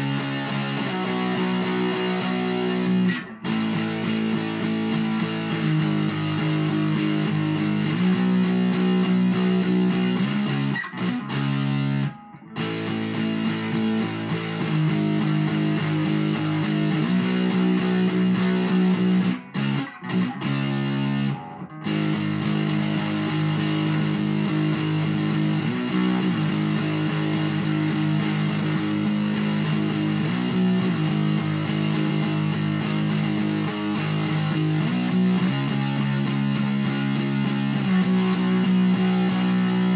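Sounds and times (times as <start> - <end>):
electric guitar chords strummed: 0.0 - 39.9.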